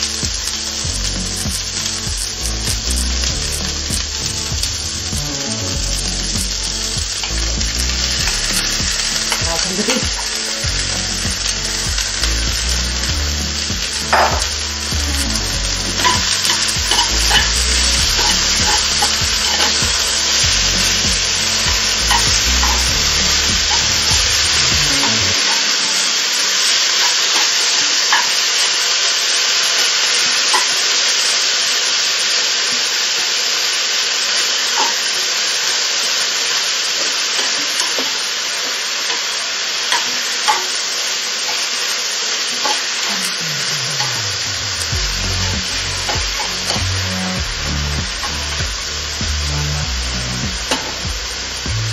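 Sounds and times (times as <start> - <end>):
food sizzling in frying pan: 0.0 - 51.9.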